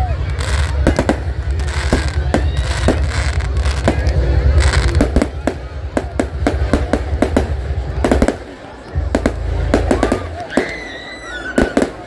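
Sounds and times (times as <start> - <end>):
continuous low rumble: 0.0 - 12.0
fireworks bangs: 0.2 - 12.0.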